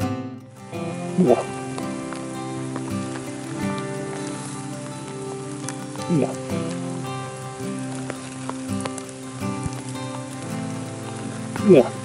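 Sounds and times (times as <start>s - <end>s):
music of held notes: 0.0s - 12.0s
steady hiss: 0.0s - 12.0s.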